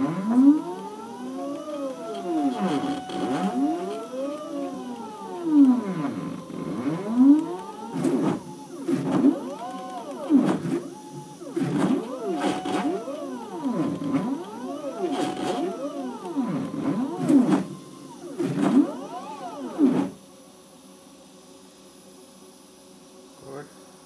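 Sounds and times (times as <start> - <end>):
stepper motors whining: 0.0 - 20.2.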